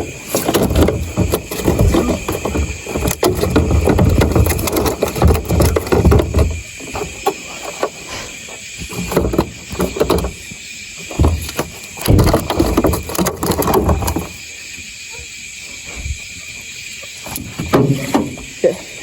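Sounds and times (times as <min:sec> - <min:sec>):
knocks and thumps aboard boat: 0:00.0 - 0:14.5, 0:17.1 - 0:18.9.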